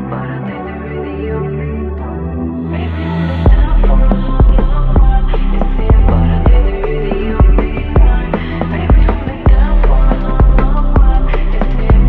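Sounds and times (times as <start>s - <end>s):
ambient music with low bass: 0.0s - 12.0s.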